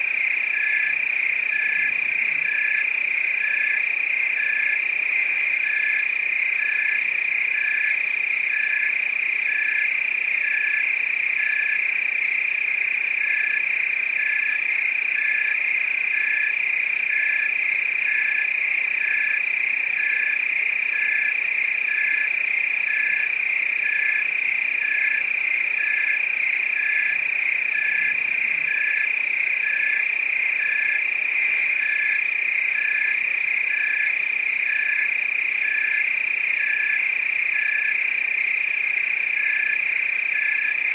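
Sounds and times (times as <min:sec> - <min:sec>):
frogs calling: 0:00.0 - 0:11.9, 0:13.1 - 0:40.9
crickets trilling: 0:00.0 - 0:40.9.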